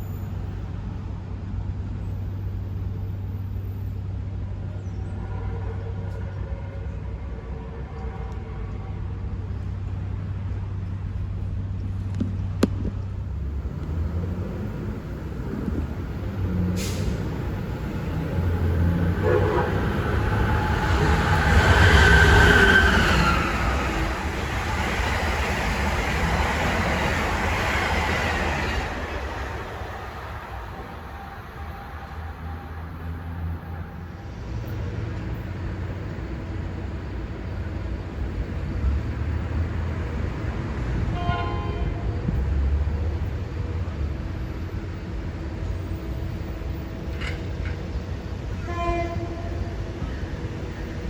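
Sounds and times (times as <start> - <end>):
train rumble and wheel noise: 0.0 - 51.0.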